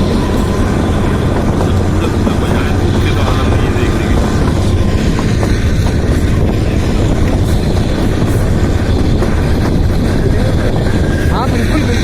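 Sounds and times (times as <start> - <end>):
toy train rumbling on track: 0.0 - 12.0.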